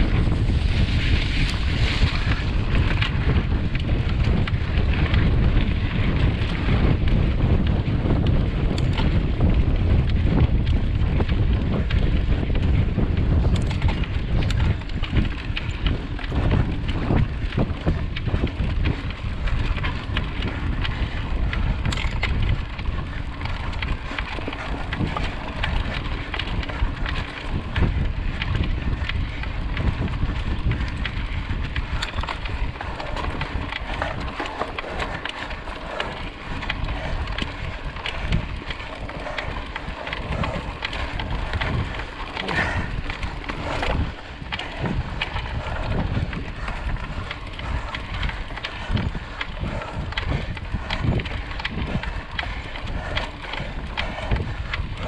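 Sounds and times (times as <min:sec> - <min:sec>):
bike rattles and knocks: 0:00.0 - 0:55.0
bike tyres rolling on trail: 0:00.0 - 0:55.0
wind buffeting microphone: 0:00.0 - 0:55.0.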